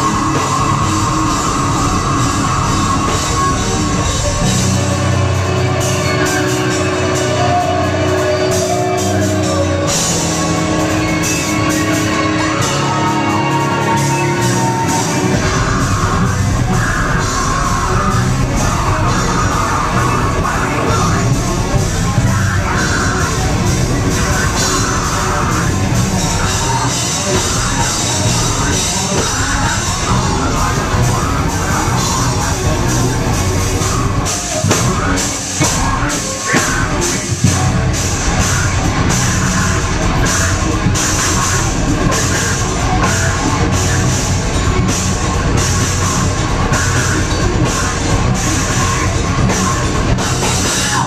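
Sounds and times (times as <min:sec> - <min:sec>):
live metal band playing: 0:00.0 - 0:51.0
vocalist on the mic: 0:00.0 - 0:51.0.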